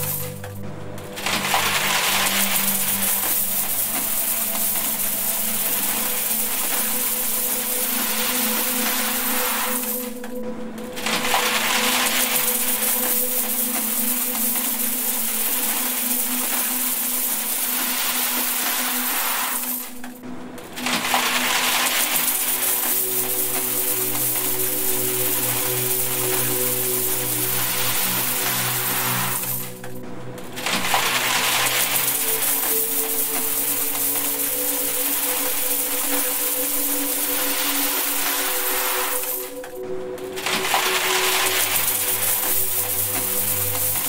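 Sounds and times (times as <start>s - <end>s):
coins pouring into metal tin: 0.0s - 0.6s, 1.2s - 10.2s, 11.0s - 20.0s, 20.8s - 29.8s, 30.6s - 39.7s, 40.4s - 44.0s
low humming tones: 0.0s - 44.0s.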